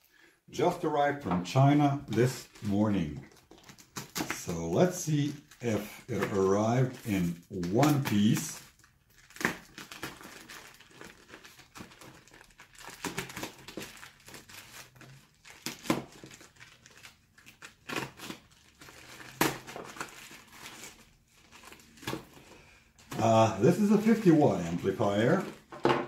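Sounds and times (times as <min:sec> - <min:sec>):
plastic bag crinkling: 0:01.6 - 0:04.5, 0:05.1 - 0:26.0.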